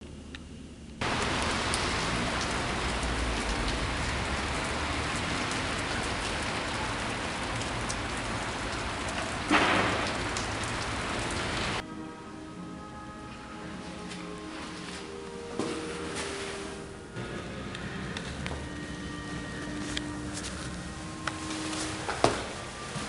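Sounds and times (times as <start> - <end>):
faint music: 0.9 - 23.0
steady rain falling: 1.0 - 11.8, 12.8 - 23.0.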